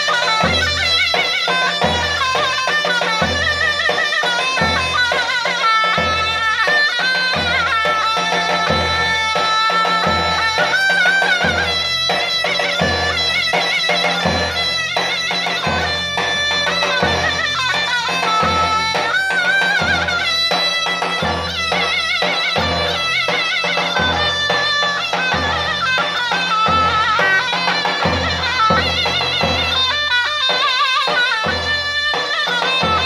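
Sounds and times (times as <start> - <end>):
reedy shawm playing melody: 0.0 - 33.0.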